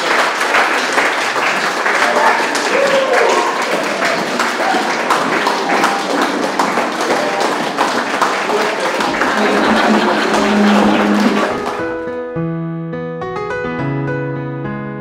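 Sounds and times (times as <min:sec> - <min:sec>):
crowd clapping: 0:00.0 - 0:12.2.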